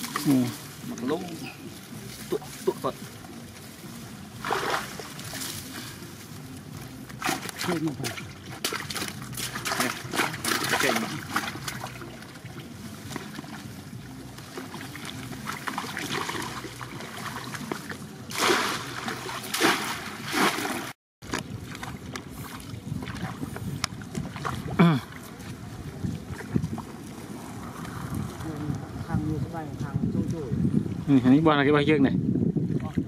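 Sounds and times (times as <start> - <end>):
paddle stroking water: 0.0 - 28.6
splashing through shallow water: 0.0 - 29.0.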